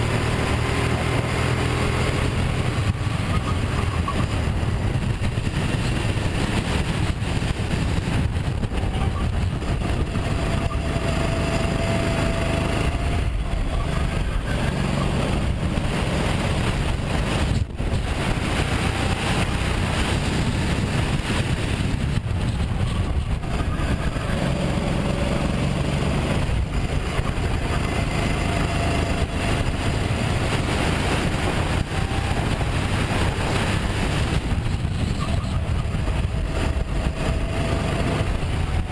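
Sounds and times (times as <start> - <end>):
kart engine running hard: 0.0 - 38.9.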